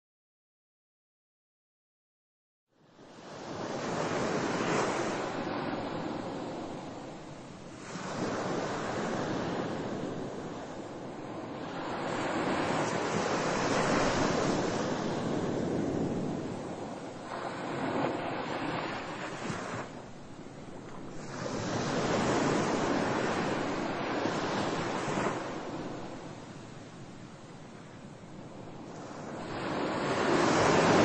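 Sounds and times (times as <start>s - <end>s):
ocean surf washing in: 3.3s - 31.0s.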